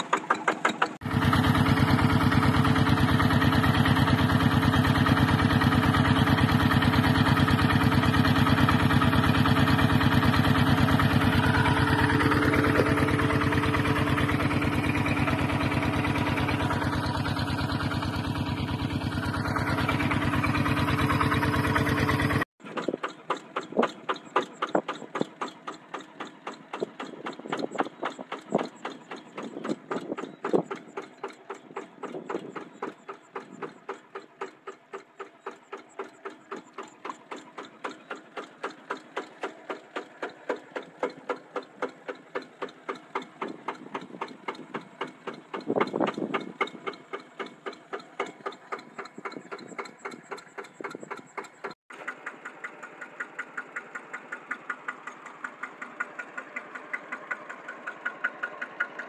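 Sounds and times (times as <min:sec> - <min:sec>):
diesel engine knocking beat: 0:00.0 - 0:59.0
diesel engine steady beat: 0:00.0 - 0:59.0.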